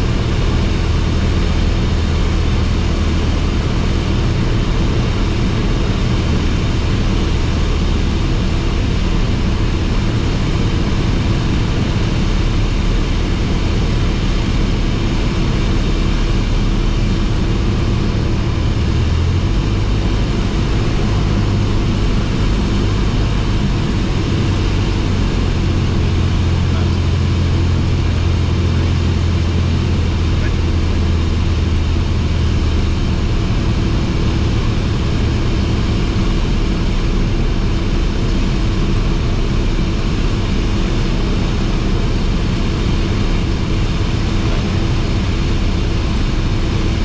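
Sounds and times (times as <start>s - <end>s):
airplane engine and propeller droning: 0.0s - 47.0s.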